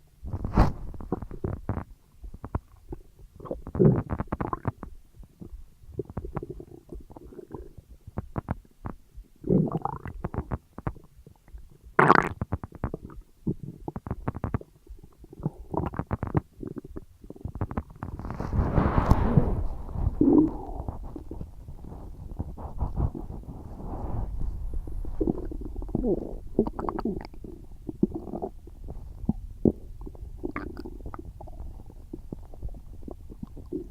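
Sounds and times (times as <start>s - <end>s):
stomach gurgling: 0.2s - 33.9s.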